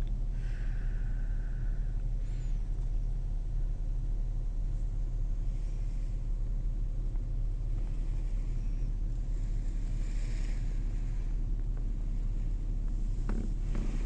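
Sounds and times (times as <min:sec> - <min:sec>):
low rumble inside car cabin: 0:00.0 - 0:14.0.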